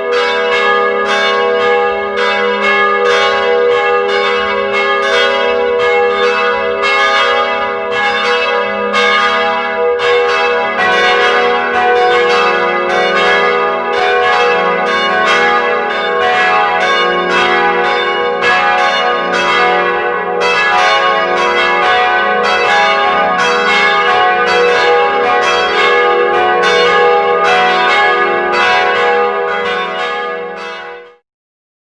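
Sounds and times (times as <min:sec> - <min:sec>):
church bells ringing a peal: 0:00.0 - 0:31.2.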